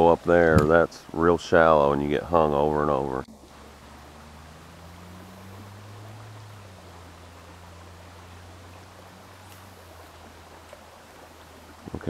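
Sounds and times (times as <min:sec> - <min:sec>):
faint steady hiss: 0:00.0 - 0:12.0
low steady hum: 0:00.0 - 0:12.0.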